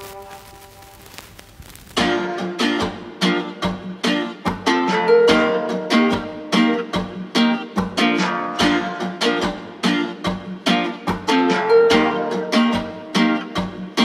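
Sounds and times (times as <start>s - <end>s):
strummed string instrument: 2.0s - 14.0s.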